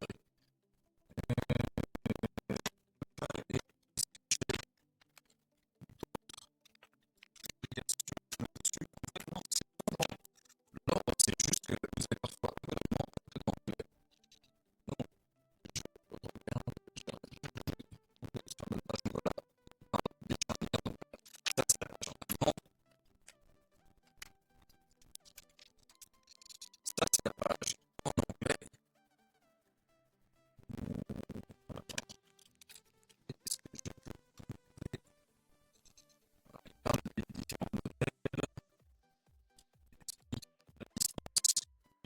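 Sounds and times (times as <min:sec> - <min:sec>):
scratching and rapid clicking: 0:01.1 - 0:42.0.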